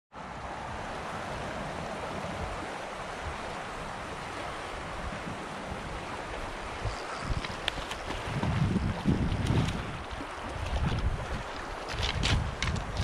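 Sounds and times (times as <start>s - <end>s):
river water rushing: 0.2s - 13.0s.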